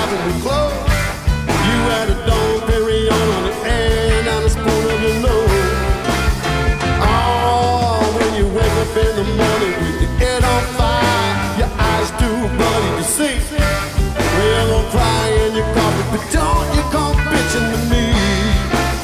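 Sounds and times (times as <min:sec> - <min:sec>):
drums: 0:00.0 - 0:19.0
electric guitar: 0:00.0 - 0:19.0
piano: 0:00.0 - 0:19.0.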